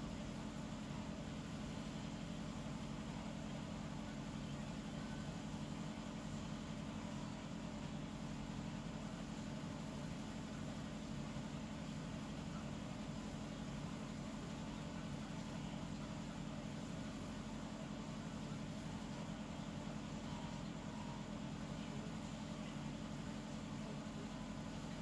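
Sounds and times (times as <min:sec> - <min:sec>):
low hum with faint hiss: 0:00.0 - 0:25.0.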